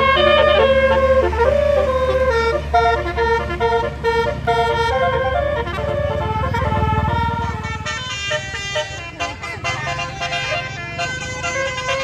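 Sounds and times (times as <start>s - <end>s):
musical vehicle horn tune: 0.0s - 12.0s.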